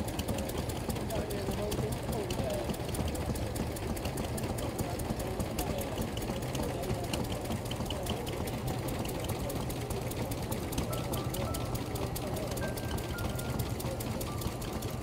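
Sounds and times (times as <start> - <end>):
engine running with even clicking: 0.0 - 15.0
faint voices: 0.0 - 15.0.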